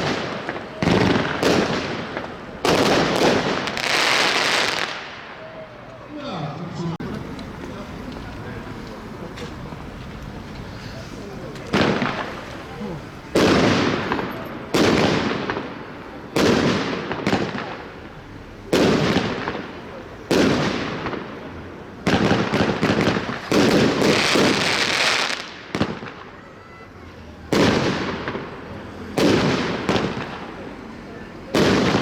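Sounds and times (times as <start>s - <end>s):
fireworks exploding with echo: 0.0s - 5.7s, 11.4s - 32.0s.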